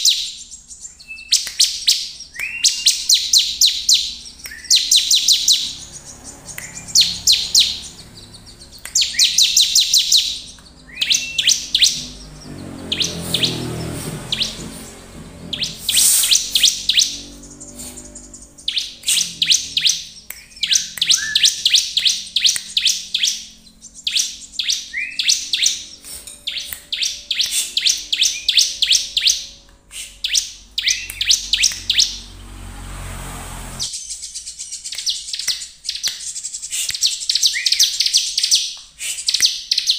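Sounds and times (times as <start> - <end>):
bird chattering song: 0.0 - 32.7, 33.8 - 39.9.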